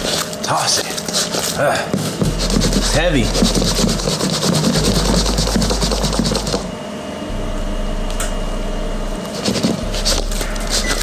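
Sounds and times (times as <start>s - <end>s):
cooktop whine: 0.0s - 11.0s.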